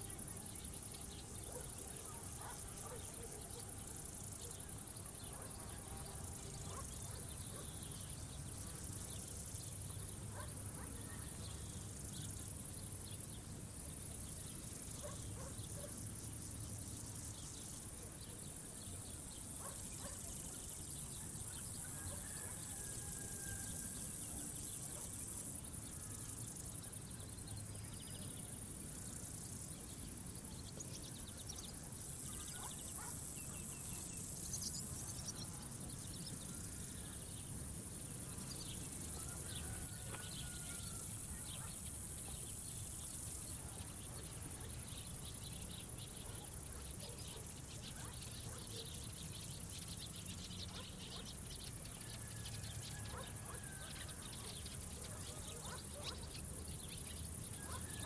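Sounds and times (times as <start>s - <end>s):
soft high insect hiss: 0.0s - 58.0s
crickets high-pitched buzz: 8.0s - 58.0s.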